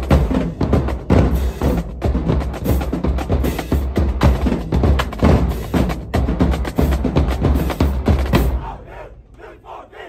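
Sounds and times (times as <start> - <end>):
bass drum beats: 0.0 - 8.8
rapid snare drum strokes: 0.0 - 8.8.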